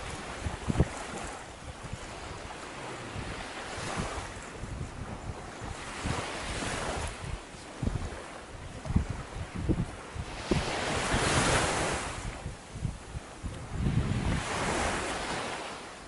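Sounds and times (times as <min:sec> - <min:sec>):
wind buffeting microphone: 0:00.0 - 0:15.8
sea waves washing ashore: 0:00.0 - 0:16.0.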